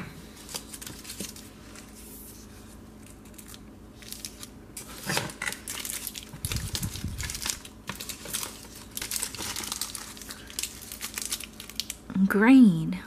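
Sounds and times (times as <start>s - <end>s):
plastic wrappers crinkling: 0.4s - 2.1s, 3.0s - 12.1s.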